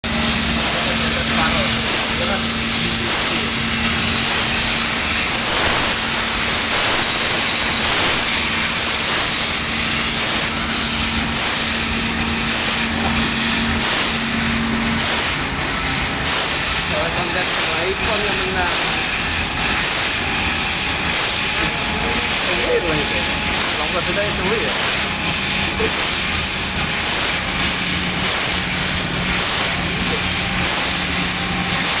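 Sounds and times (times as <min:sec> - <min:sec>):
low machine hum: 0:00.0 - 0:32.0
laser cutter gas hiss: 0:00.1 - 0:32.0.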